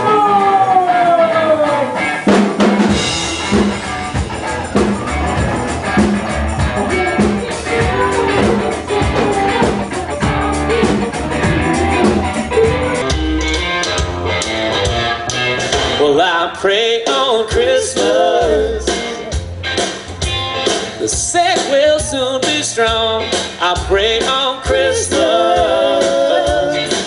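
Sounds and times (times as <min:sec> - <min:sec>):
live band playing: 0:00.0 - 0:27.0
drum kit beat: 0:01.5 - 0:16.3, 0:17.0 - 0:27.0.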